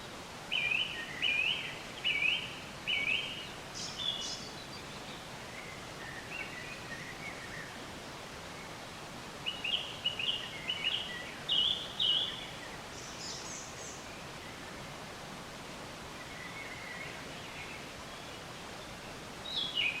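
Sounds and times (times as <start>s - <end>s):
steady background hiss: 0.0s - 20.0s
birds chirping: 0.5s - 7.8s, 9.4s - 14.8s, 16.1s - 20.0s.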